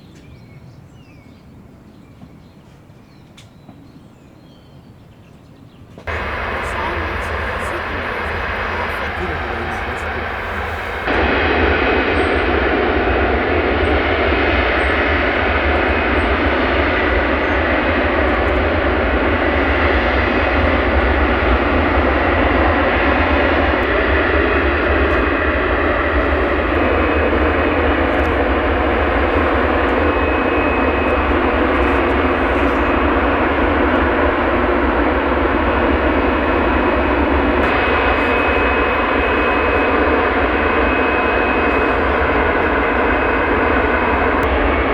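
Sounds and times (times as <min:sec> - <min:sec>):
jet engines running: 0:06.1 - 0:44.9.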